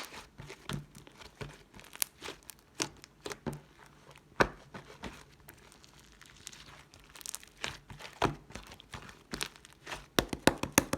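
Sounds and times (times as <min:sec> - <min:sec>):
slime squished by hand: 0:00.0 - 0:10.9.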